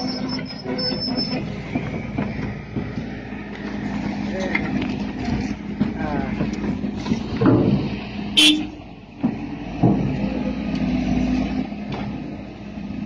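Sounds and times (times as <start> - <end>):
heavy vehicle humming: 0.0 - 13.0.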